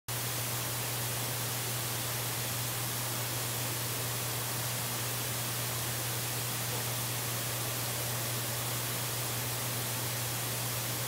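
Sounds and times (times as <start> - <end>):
static hiss: 0.1 - 11.0.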